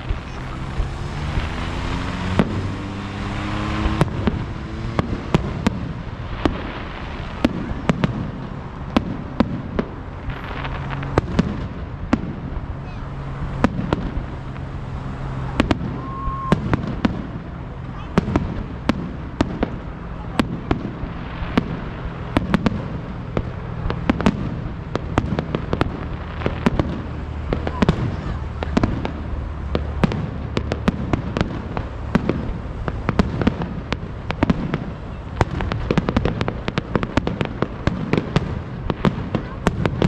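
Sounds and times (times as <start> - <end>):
fireworks bangs and crackles: 0.0 - 40.0
low rumble: 0.0 - 40.0.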